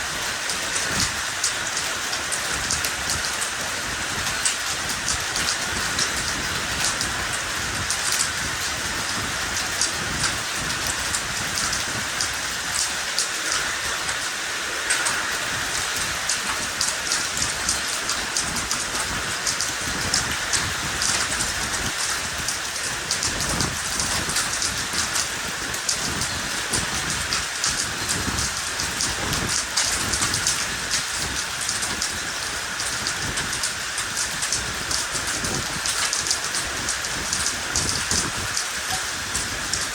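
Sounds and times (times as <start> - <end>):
hail ticking on hard surfaces: 0.0 - 39.9
heavy rain hissing: 0.0 - 39.9.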